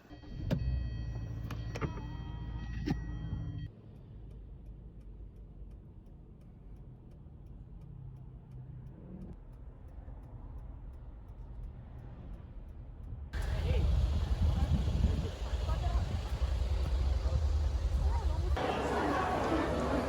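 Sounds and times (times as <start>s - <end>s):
faint low car rumble: 0.0s - 20.0s
car turn signal ticking: 0.5s - 18.6s.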